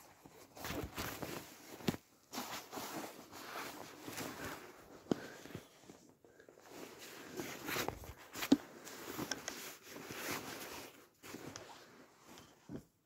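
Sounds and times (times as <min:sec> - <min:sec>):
rustling and shuffling: 0:00.0 - 0:13.0.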